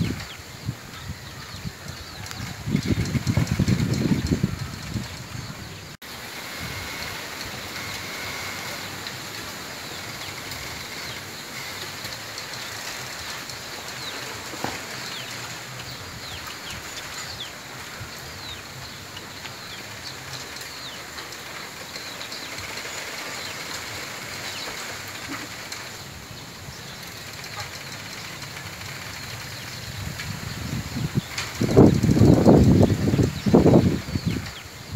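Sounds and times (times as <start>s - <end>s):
bamboo leaves rustling in wind: 0.0s - 34.9s.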